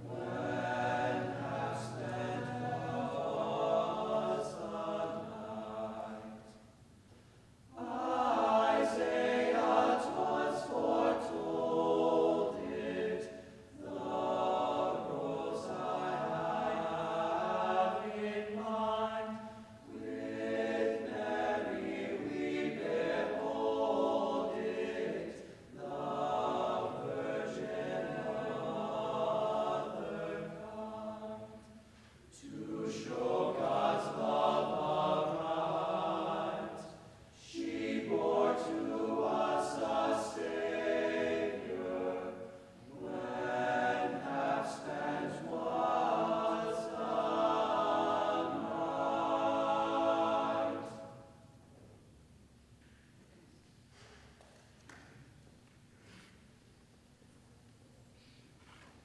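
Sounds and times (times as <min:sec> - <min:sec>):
choir singing a cappella: 0:00.0 - 0:06.8, 0:07.7 - 0:51.7.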